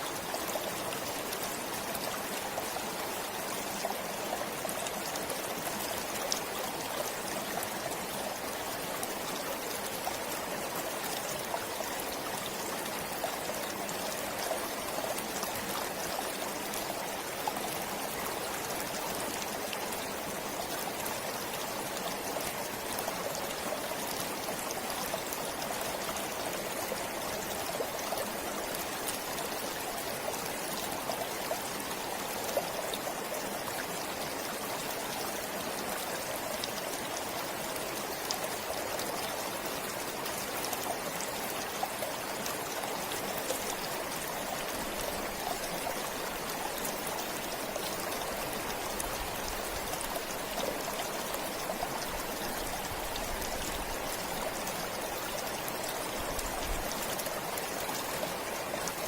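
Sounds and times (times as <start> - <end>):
stream rushing: 0.0 - 59.0
water splashes and drips: 0.0 - 59.0.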